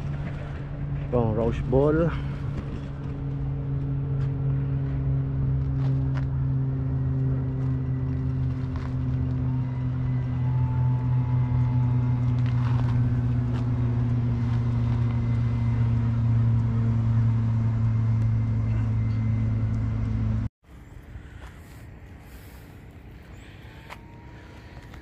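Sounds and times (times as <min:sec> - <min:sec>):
motor vehicle running: 0:00.0 - 0:25.0
outdoor background sound: 0:00.0 - 0:25.0.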